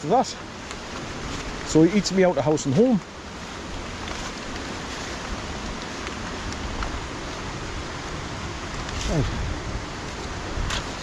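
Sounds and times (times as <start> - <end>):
heavy rain in woodland: 0.0 - 11.0.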